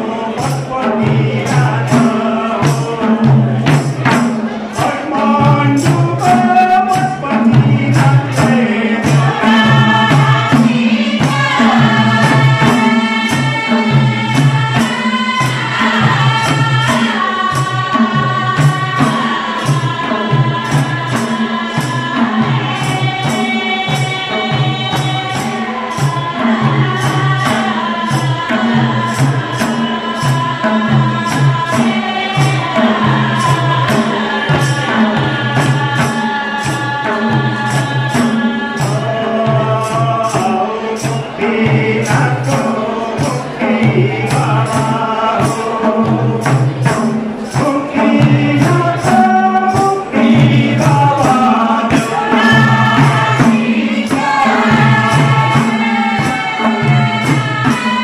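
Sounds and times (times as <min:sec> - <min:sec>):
group singing folk song: 0:00.0 - 0:58.0
hand drums beating: 0:00.0 - 0:58.0.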